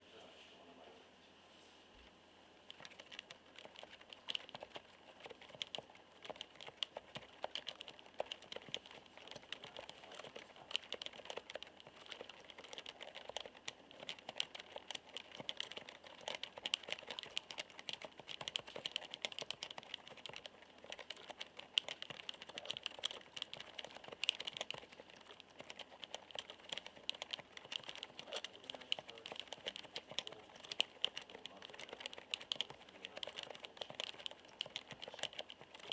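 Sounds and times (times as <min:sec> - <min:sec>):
fast typing on a keyboard: 0:02.7 - 0:35.9.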